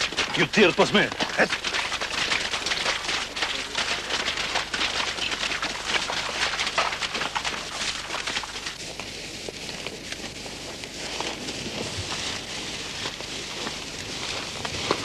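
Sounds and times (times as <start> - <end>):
people running through dry brush: 0.0 - 15.0.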